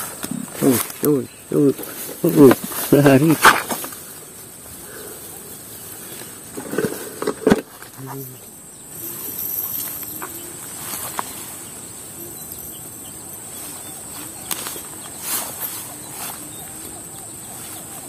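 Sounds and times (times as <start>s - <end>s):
high-pitched insect chorus: 0.0s - 18.0s
low voices: 0.0s - 18.0s.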